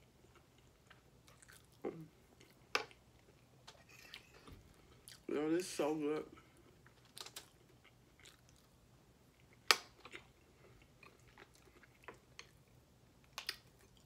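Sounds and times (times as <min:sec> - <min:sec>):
person chewing food: 0:00.0 - 0:05.3, 0:06.6 - 0:14.0.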